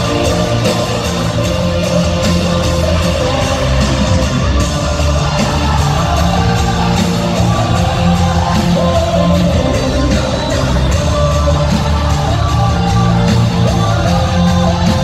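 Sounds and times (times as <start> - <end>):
drums: 0.0 - 15.0
lead vocal singing: 0.0 - 15.0.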